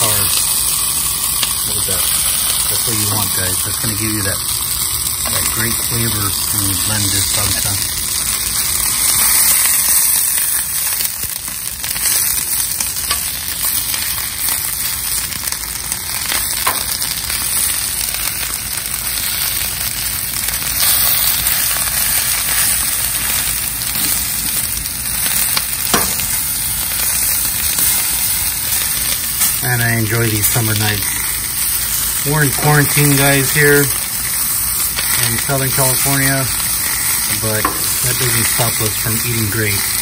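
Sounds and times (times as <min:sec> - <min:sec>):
vegetables sizzling on a griddle: 0:00.0 - 0:40.0.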